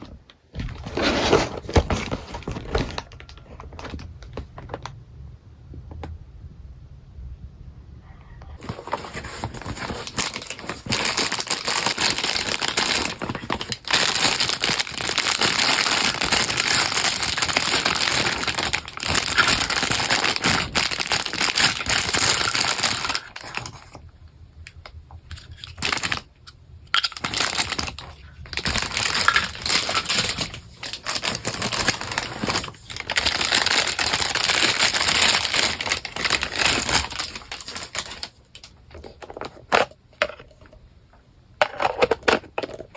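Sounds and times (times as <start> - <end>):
packaging crinkling and rustling: 0.0 - 5.0, 8.6 - 24.0, 24.7 - 40.7.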